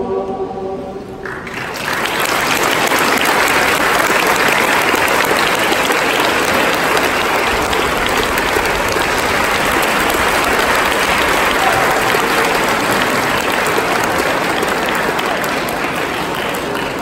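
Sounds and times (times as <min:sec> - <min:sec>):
audience applauding: 0:01.2 - 0:17.0.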